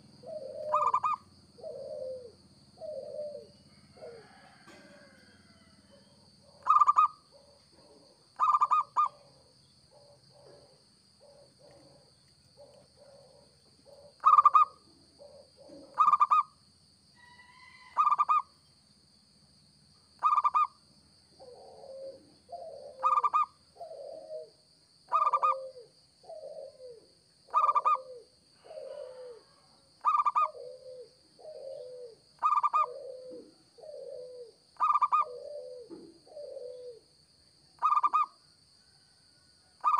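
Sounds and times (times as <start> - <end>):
dove cooing: 0.0 - 16.6, 17.2 - 18.5, 20.2 - 37.2, 37.8 - 38.4.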